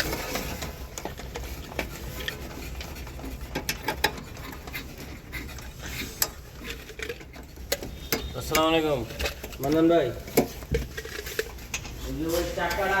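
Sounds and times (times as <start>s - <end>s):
tools and parts clicking: 0.0s - 13.0s.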